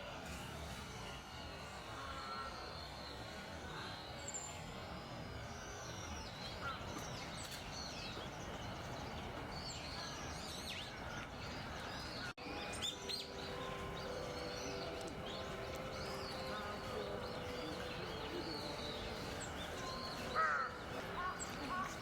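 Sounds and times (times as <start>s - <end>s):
steady outdoor noise: 0.0s - 22.0s
small birds chirping: 2.6s - 22.0s.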